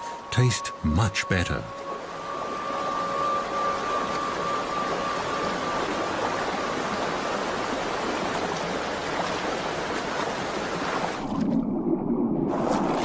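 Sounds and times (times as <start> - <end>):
rushing water of stream: 0.0 - 11.6.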